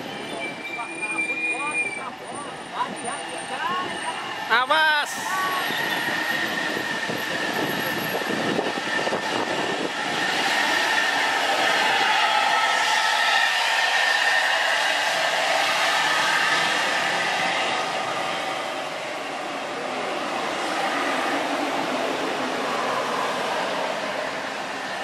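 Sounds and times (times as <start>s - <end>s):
bus diesel engine: 0.0s - 25.0s.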